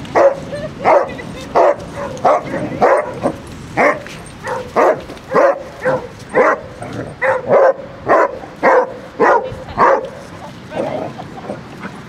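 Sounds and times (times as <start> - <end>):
dog barking: 0.1 - 10.2.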